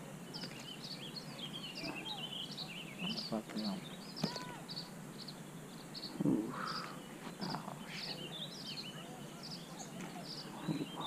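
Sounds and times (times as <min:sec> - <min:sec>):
birds chirping: 0:00.0 - 0:11.0
outdoor hiss: 0:00.0 - 0:11.0.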